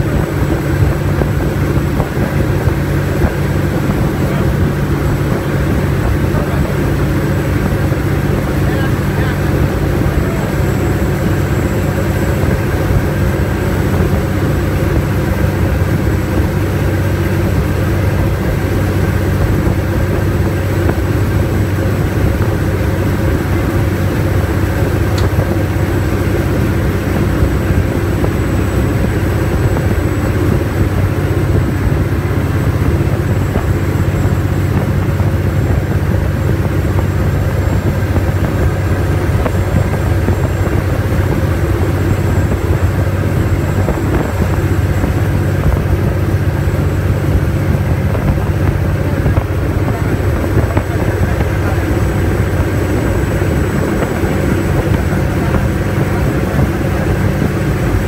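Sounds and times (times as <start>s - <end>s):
ferry engines droning: 0.0s - 58.0s.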